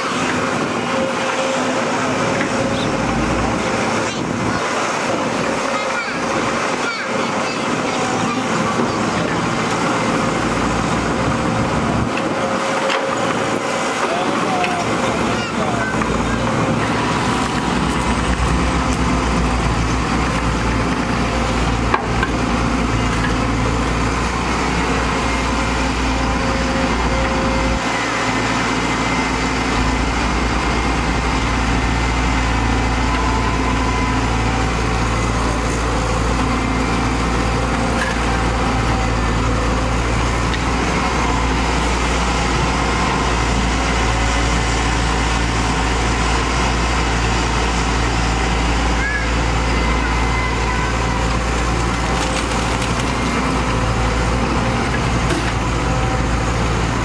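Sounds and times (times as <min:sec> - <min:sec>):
excavator diesel engine running: 0:00.0 - 0:57.0
excavator digging dirt: 0:00.0 - 0:57.0.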